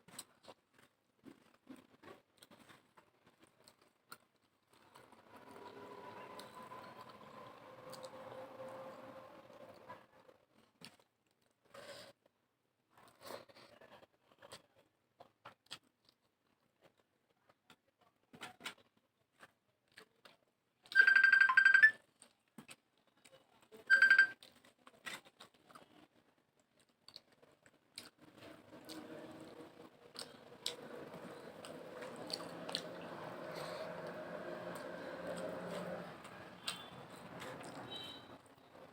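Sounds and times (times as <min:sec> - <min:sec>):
chewing and crunching: 0:00.0 - 0:08.3, 0:13.0 - 0:21.0, 0:22.0 - 0:23.8, 0:24.4 - 0:38.1.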